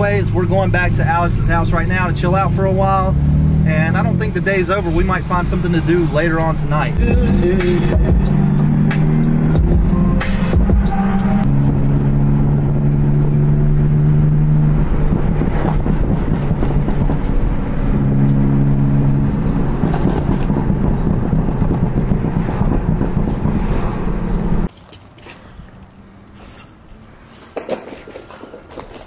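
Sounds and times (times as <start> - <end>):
car engine droning: 0.0 - 24.7
road and tyre noise: 0.0 - 29.0.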